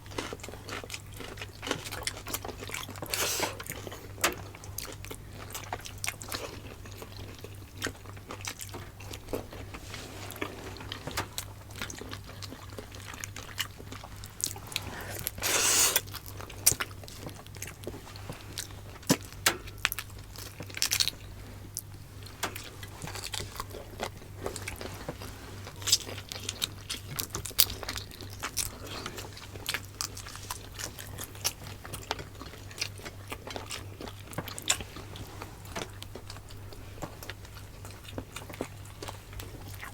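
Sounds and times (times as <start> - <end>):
chewing food: 0.0 - 39.9.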